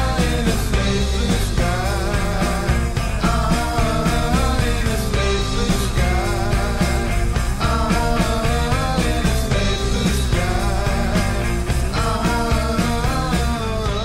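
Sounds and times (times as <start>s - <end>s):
bass: 0.0s - 14.0s
drum beat: 0.0s - 14.0s
rock music: 0.0s - 14.0s.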